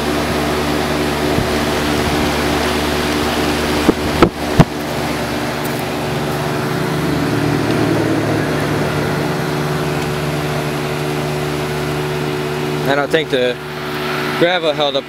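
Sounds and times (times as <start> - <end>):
compressor humming: 0.0 - 15.0
fan blowing: 0.0 - 15.0.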